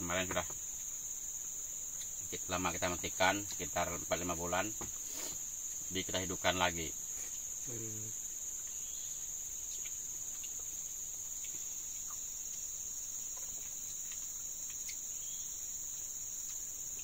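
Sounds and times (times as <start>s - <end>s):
chorus of forest insects: 0.0s - 17.0s.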